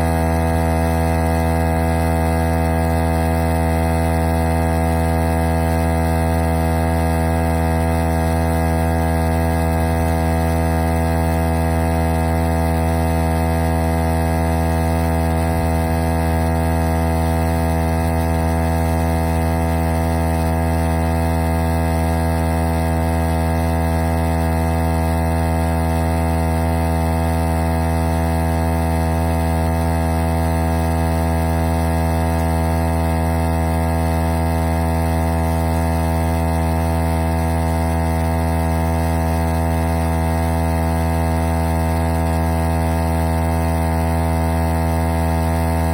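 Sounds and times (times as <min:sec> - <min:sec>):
tire inflator motor hum: 0:00.0 - 0:45.9.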